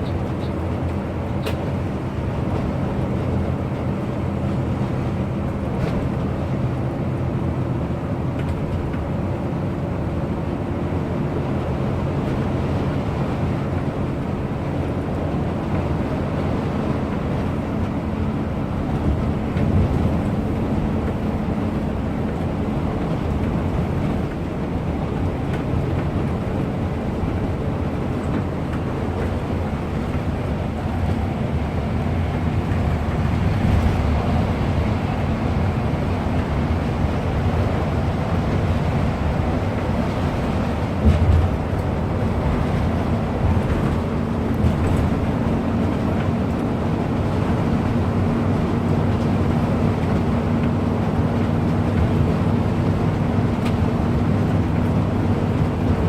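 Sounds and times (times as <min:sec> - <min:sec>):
bus engine running: 0:00.0 - 0:56.0
tyre and road noise: 0:00.0 - 0:56.0.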